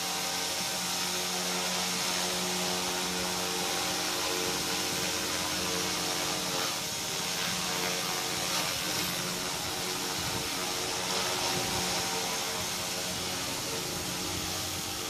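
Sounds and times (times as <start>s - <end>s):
model helicopter motor whine: 0.0s - 15.0s
rotor blade rush: 0.0s - 15.0s.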